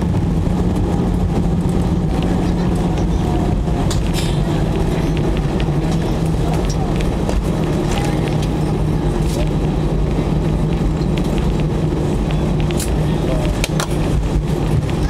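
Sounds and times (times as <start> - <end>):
engines and wheels rumbling: 0.0 - 15.0
low hum: 0.0 - 15.0.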